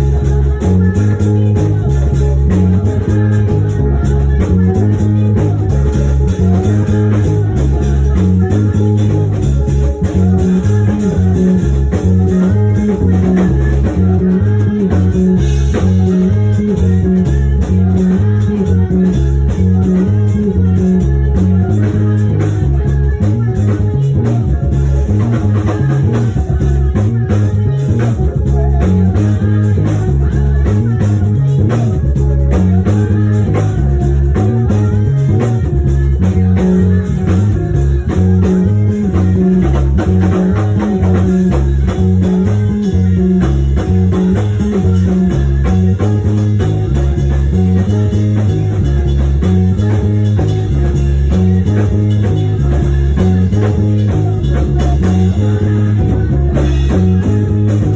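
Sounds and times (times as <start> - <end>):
electric bass guitar: 0.0 - 57.9
instrumental band music: 0.0 - 57.9.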